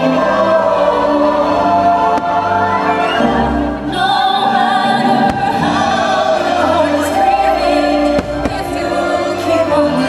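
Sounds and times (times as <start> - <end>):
choir singing: 0.0 - 10.0
orchestral music: 0.0 - 10.0.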